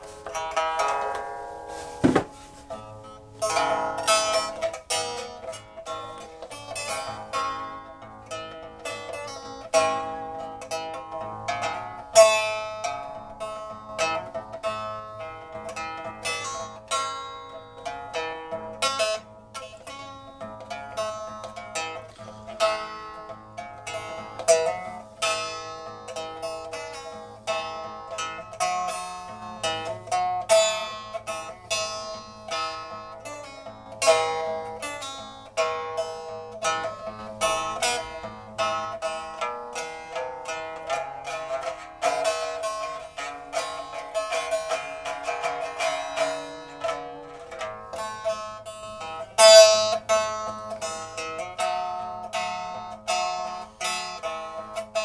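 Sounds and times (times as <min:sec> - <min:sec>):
plucked zither music: 0:00.0 - 0:55.0.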